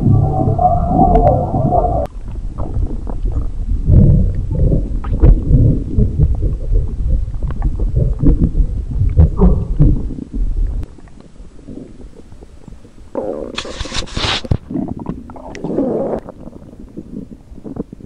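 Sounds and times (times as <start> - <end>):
stomach rumbling and gurgling: 0.0 - 18.0.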